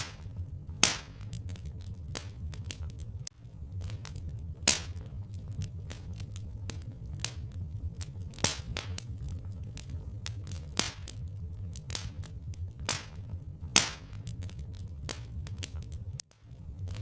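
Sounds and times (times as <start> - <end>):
fire pops: 0.0 - 17.0
low rumble: 0.0 - 17.0
wood fire crackling: 0.0 - 17.0.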